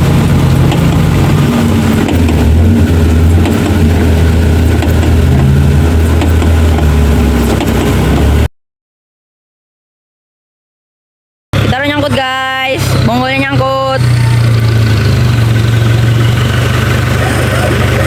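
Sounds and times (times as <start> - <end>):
engine running hard under load: 0.0 - 8.5, 11.6 - 18.0.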